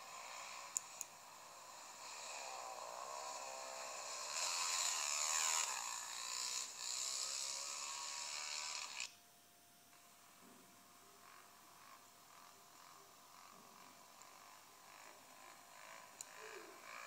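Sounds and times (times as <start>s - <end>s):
dirt bike engine revving: 0.0s - 9.1s, 11.2s - 17.0s
faint steady hum: 0.0s - 17.0s.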